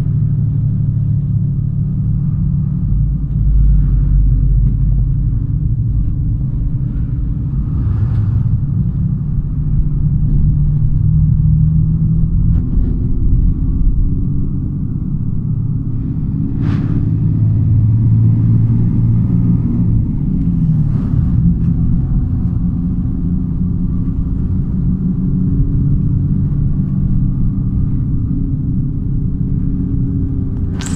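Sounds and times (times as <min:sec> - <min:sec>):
bus engine and road rumble: 0:00.0 - 0:30.9.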